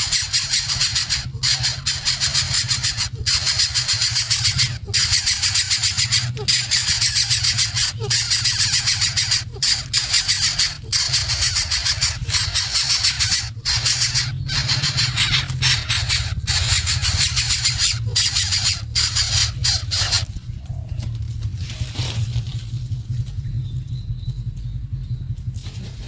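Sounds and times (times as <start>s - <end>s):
baby birds begging calls: 0.0s - 22.2s
steady low rumble: 0.0s - 26.0s.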